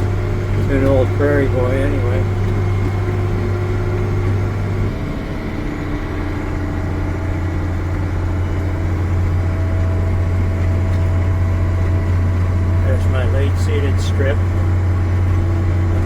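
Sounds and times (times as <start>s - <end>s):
engine droning under load: 0.0s - 16.0s.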